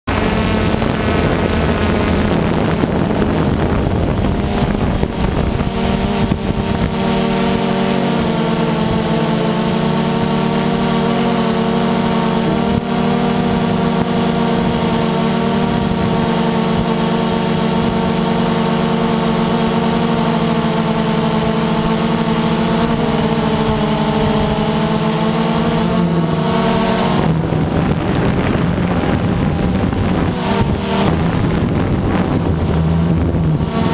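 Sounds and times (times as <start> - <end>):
drone motors humming: 0.0 - 33.9
wind rumble on microphone: 0.1 - 33.9.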